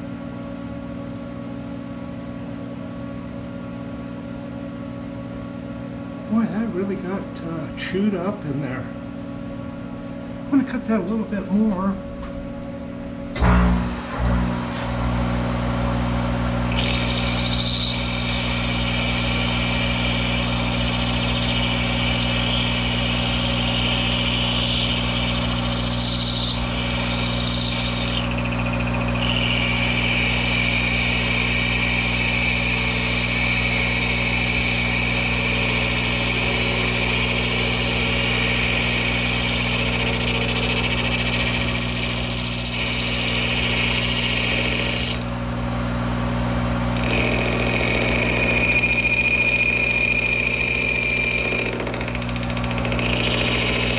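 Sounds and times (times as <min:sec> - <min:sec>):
lathe running with low hum: 0:00.0 - 0:53.9.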